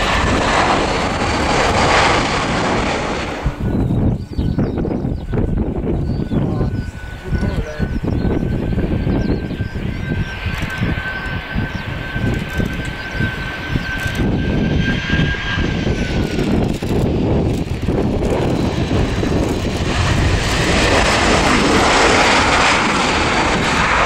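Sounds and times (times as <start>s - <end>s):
jet engine whine: 0.0s - 24.0s
low rumble: 0.0s - 24.0s
rushing jet noise: 0.0s - 24.0s.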